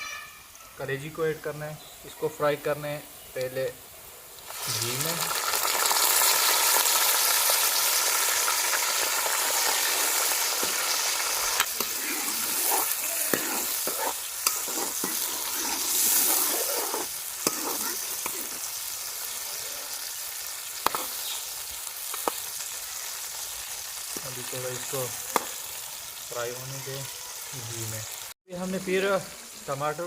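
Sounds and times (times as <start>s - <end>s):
liver and onion sizzling: 0.0s - 30.0s.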